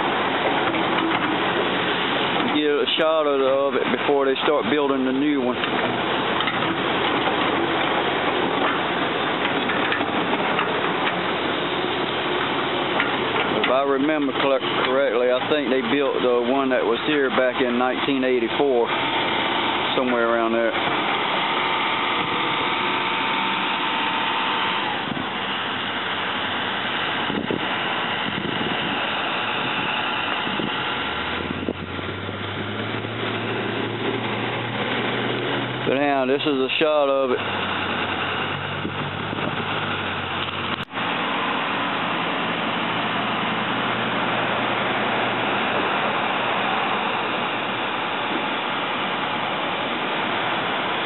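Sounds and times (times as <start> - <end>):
diesel construction machinery running: 0.0 - 51.0.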